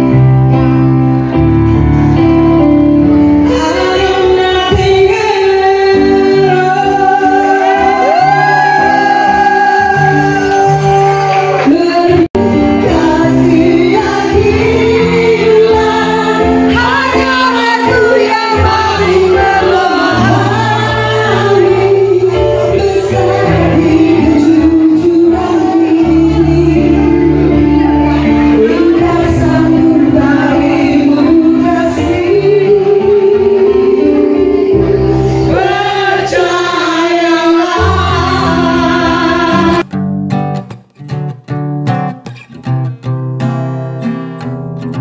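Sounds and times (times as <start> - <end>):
loud amplified music: 0.0 - 40.0
women singing into microphones: 3.4 - 39.8.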